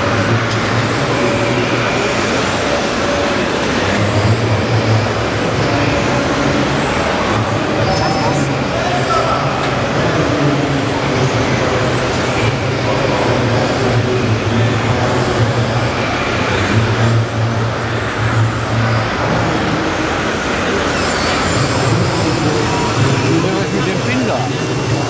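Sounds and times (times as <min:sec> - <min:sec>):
simulated diesel engine drone: 0:00.0 - 0:25.0.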